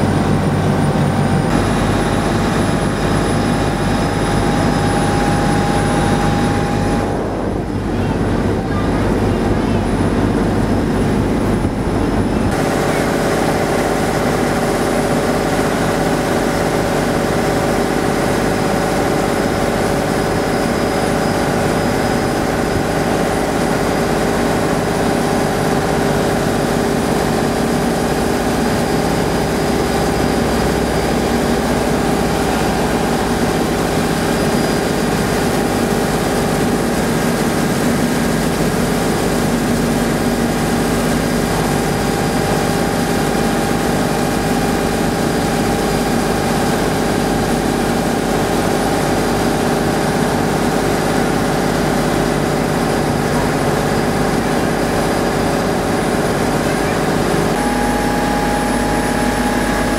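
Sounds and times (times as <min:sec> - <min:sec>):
boat engine hum: 0:00.0 - 0:59.9
rush of boat wake: 0:00.0 - 0:59.9.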